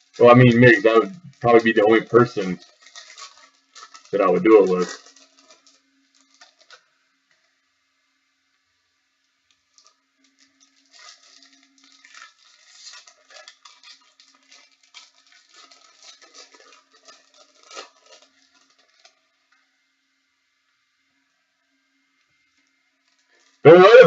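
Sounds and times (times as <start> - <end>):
card wrappers crinkling: 0.0 - 7.5, 9.4 - 19.7, 22.5 - 24.0.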